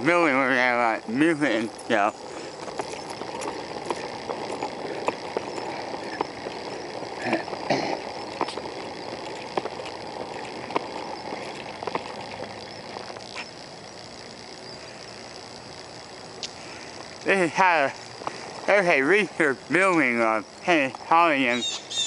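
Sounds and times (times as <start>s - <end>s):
footsteps on pavement: 0.0s - 22.0s
outdoor background hiss: 0.0s - 22.0s.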